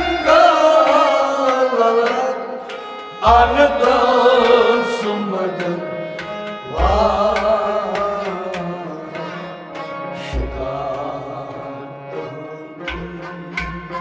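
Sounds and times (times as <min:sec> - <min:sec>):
person singing: 0:00.0 - 0:14.0.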